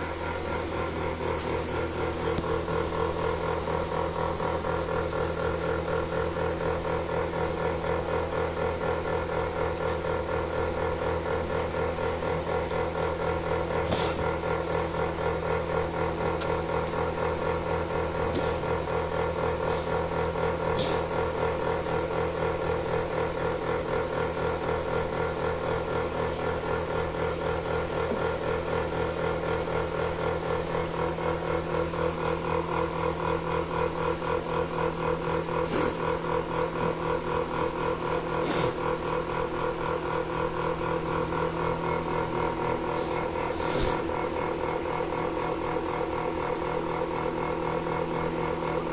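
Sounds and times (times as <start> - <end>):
milking machine pulsing drone: 0.0 - 48.9.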